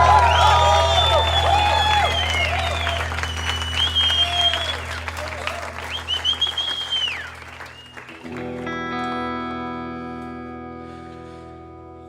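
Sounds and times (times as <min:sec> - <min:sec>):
electric guitar chord ringing: 0:00.0 - 0:06.4, 0:08.1 - 0:12.0.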